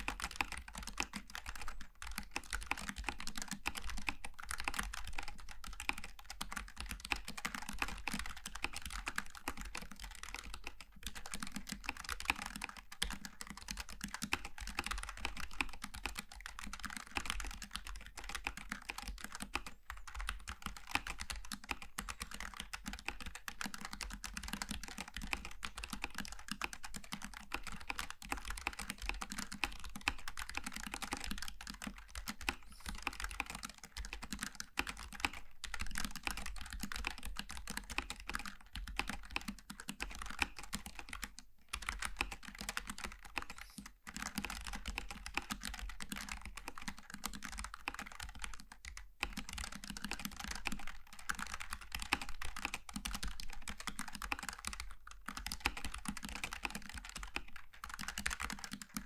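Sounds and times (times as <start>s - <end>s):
fast typing on mechanical keyboard: 0.0s - 59.0s.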